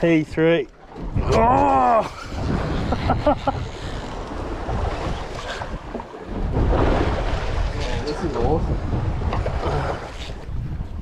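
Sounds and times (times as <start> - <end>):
water washing around boat: 0.0 - 11.0
wind buffeting microphone: 0.2 - 11.0.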